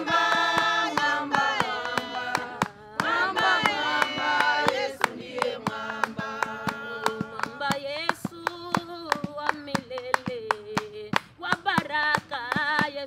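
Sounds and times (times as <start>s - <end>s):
hand-clapping: 0.0s - 13.0s
women singing a hymn: 0.0s - 13.0s.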